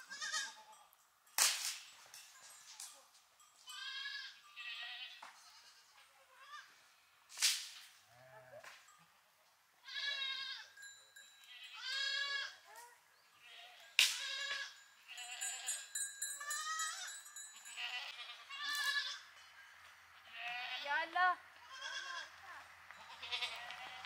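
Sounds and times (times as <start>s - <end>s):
sheep and goats bleating: 0.0s - 0.9s, 3.7s - 7.2s, 8.0s - 12.7s, 13.3s - 24.0s.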